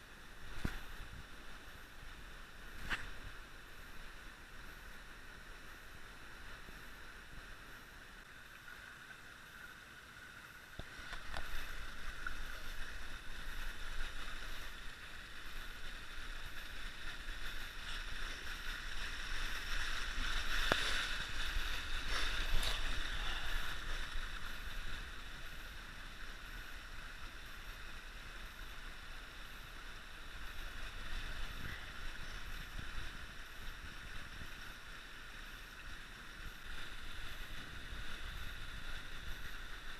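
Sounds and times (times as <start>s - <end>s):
creek flowing over stones: 0.0s - 39.9s.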